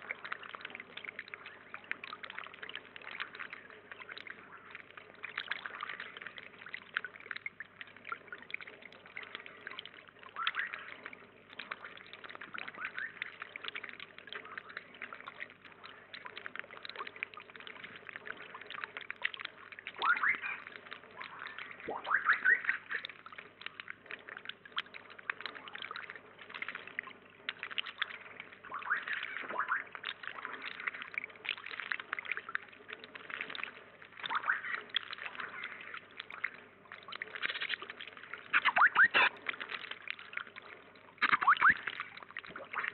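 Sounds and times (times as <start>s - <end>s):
water trickling into a pond: 0.0s - 42.9s.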